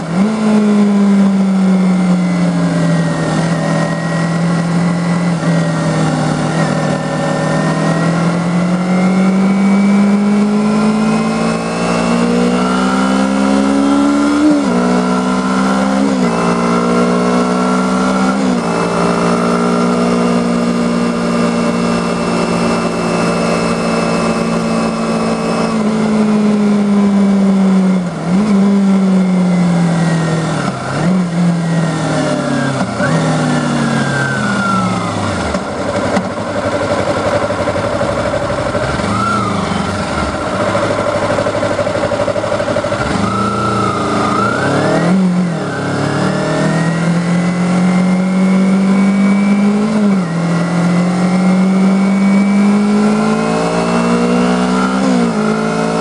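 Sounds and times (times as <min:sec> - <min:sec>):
motorcycle engine revving and shifting: 0:00.0 - 0:56.0
wind and road rush: 0:00.0 - 0:56.0.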